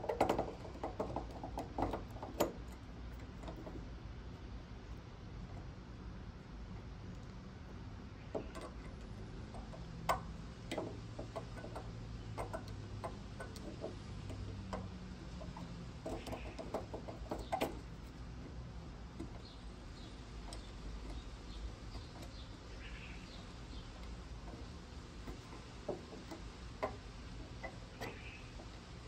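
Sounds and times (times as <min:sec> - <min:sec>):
small metallic clicks: 0:00.0 - 0:05.7, 0:08.2 - 0:29.0.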